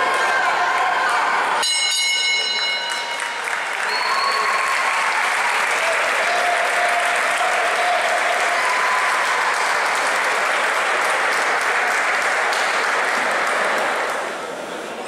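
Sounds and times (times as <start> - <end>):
crowd applauding and cheering: 0.0 - 1.6, 2.6 - 14.8.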